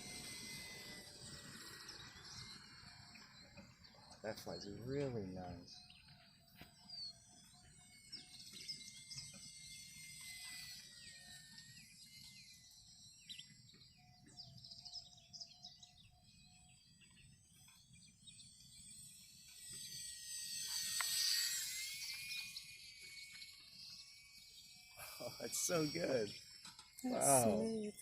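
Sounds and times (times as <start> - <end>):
birds chirping: 0.0 - 19.3, 21.4 - 28.0
model plane motor whine: 0.0 - 28.0.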